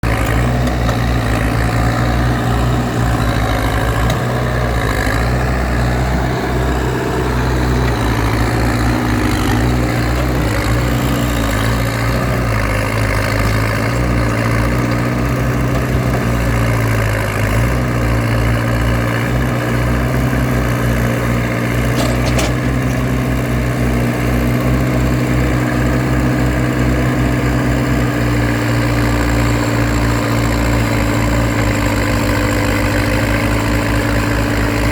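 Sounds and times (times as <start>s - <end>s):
diesel engine idling: 0.0s - 28.2s.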